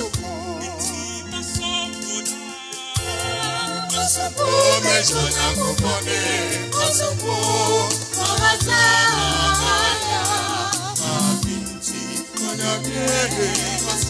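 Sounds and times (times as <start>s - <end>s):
voices singing with vibrato: 0.0s - 14.0s
steady percussion: 1.6s - 14.0s.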